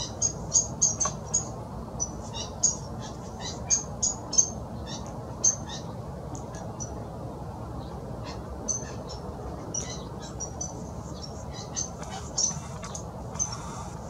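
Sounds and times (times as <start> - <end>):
small birds chirping: 0.0 - 7.1, 7.7 - 14.0
low background rumble: 0.0 - 14.0.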